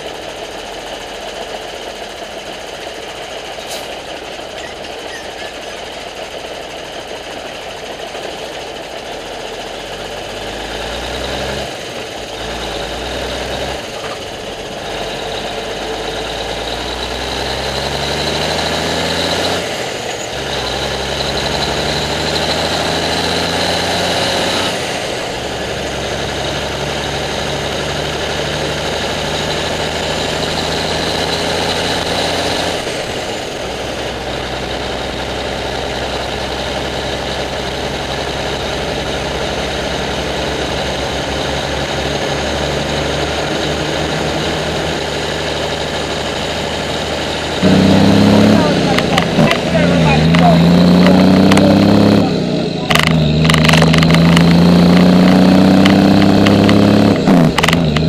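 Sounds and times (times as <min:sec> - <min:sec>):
truck diesel engine running: 0:00.0 - 0:58.0
tyre and road noise: 0:00.0 - 0:58.0.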